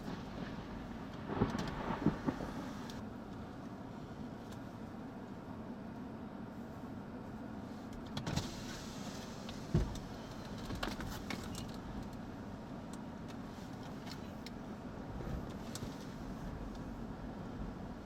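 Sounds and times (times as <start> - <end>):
vehicle on the road: 0.0 - 18.0.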